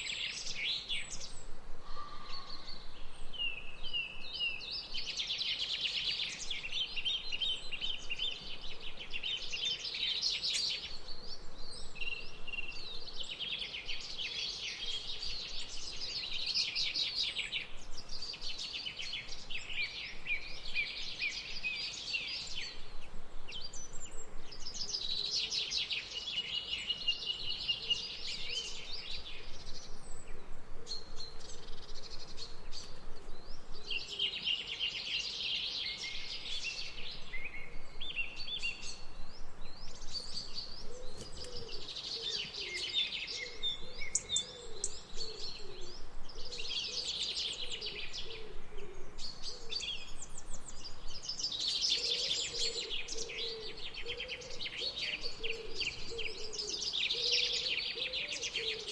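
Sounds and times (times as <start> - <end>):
birds chirping and twittering: 0.0 - 58.9
faint background hiss: 0.0 - 58.9.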